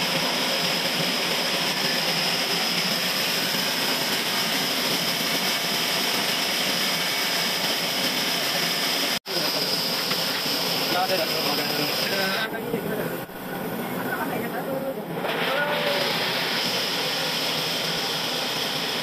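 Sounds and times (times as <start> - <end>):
band sawmill running: 0.0 - 19.0
high machine whine: 0.0 - 19.0.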